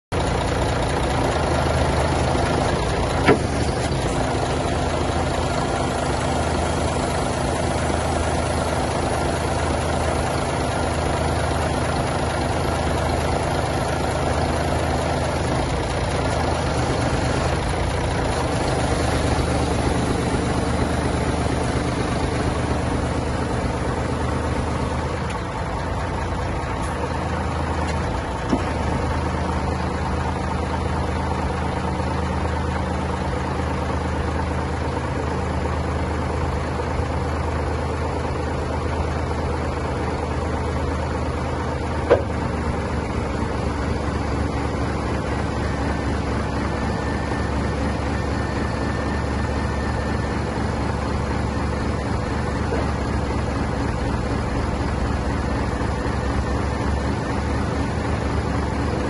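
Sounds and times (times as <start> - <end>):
truck diesel engine idling: 0.1 - 59.0.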